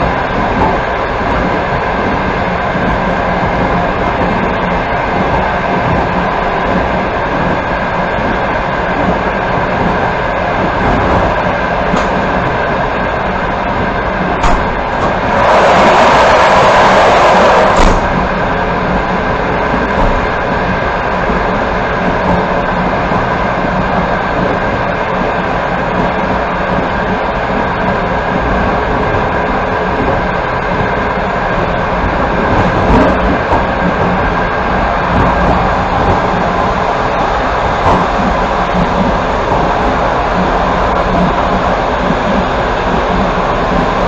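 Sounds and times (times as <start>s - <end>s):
rush of noise: 0.0s - 44.0s
train wheels rumbling on rails: 0.0s - 44.0s.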